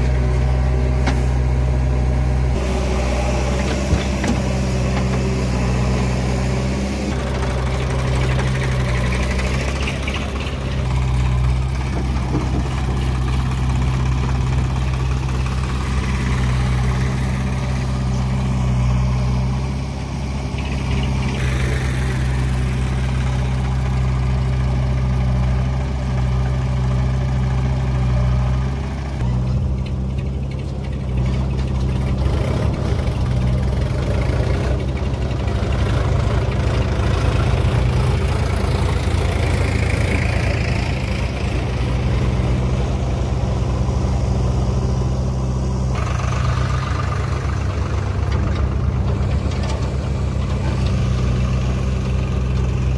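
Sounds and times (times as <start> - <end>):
tractor engines idling: 0.0 - 52.9.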